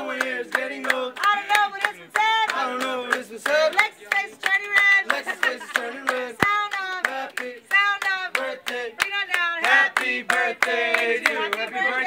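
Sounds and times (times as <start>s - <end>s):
group singing chant: 0.0s - 12.0s
people clapping in time: 0.0s - 12.0s.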